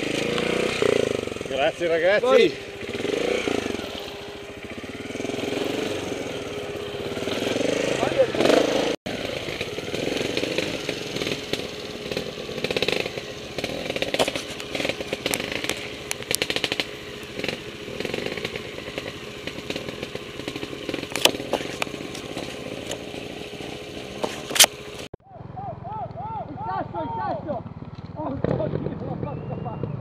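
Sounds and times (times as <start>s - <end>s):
motorcycle engine buzzing: 0.0s - 30.0s.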